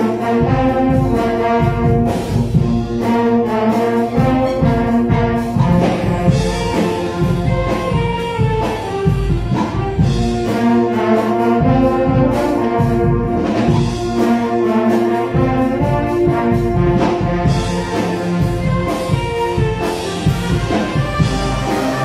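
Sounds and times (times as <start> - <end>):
concert band playing: 0.0 - 22.0
drum strikes: 0.0 - 22.0.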